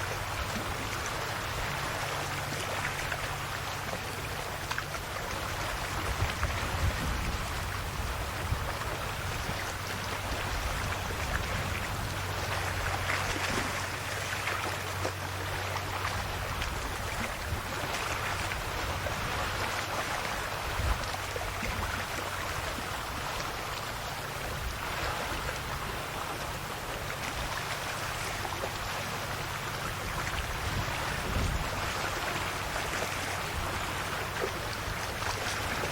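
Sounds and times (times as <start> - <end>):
calm sea waves washing: 0.0 - 35.9.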